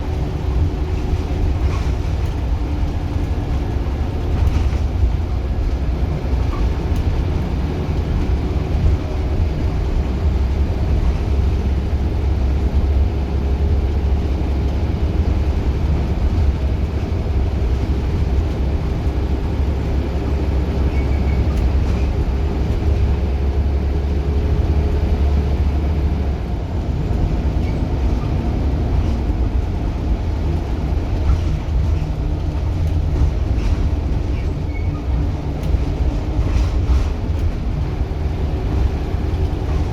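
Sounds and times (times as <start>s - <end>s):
bus engine droning with whine: 0.0s - 39.9s.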